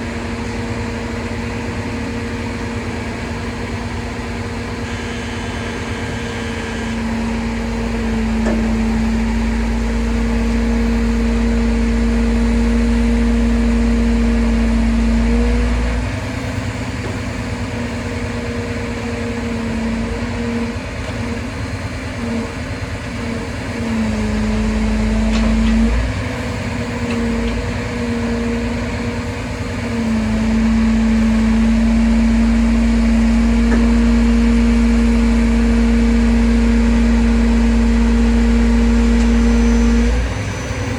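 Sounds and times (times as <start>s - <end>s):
heavy vehicle engine droning: 0.0s - 40.9s.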